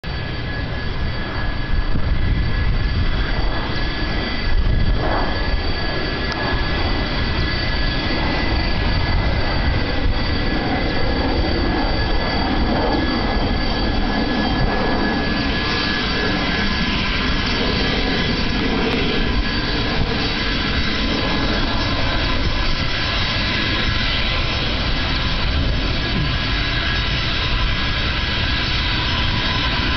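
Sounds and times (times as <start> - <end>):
high whining tones: 0.0 - 29.9
jet engines rushing: 0.0 - 29.9.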